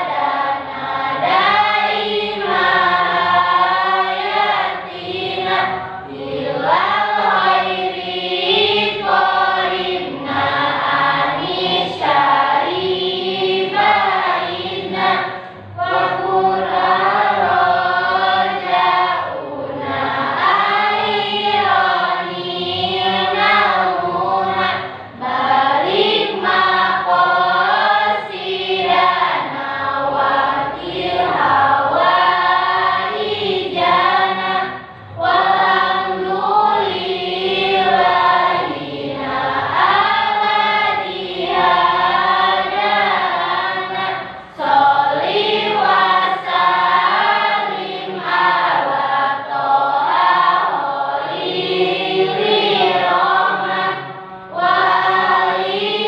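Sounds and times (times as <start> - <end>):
students singing together: 0.0 - 56.0.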